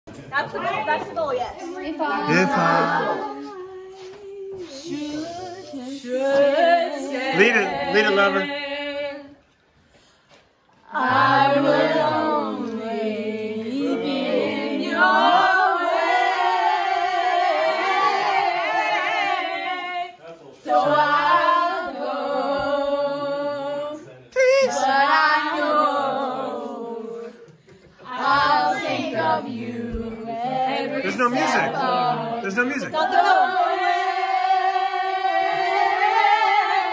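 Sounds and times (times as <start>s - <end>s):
women and girls singing: 0.3s - 10.0s, 10.7s - 36.9s.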